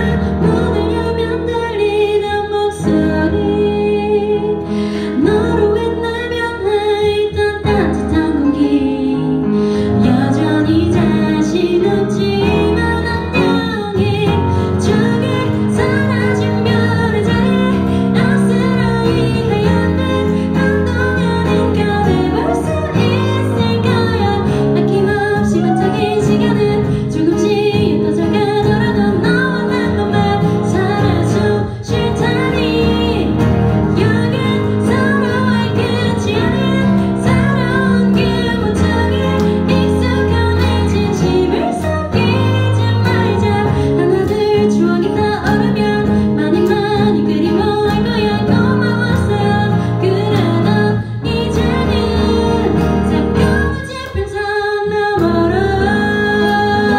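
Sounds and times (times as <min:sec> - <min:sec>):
woman singing a ballad: 0:00.0 - 0:56.9.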